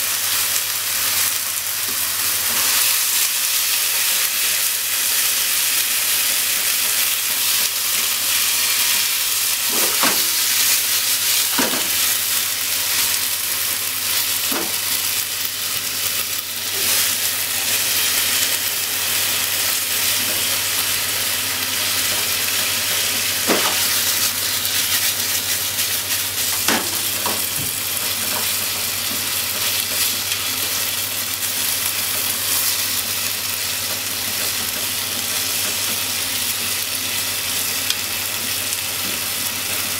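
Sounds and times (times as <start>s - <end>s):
meat and onion sizzling in a pan: 0.0s - 39.9s.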